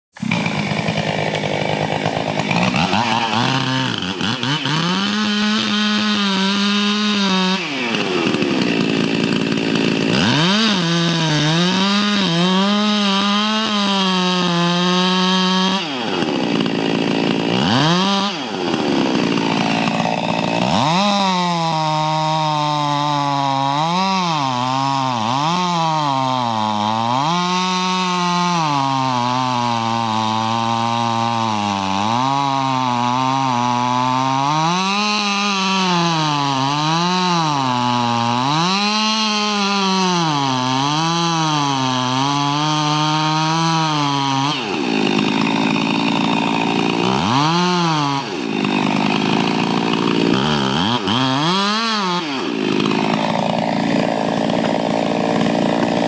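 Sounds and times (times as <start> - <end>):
chainsaw cutting into tree trunk: 0.2 - 56.0.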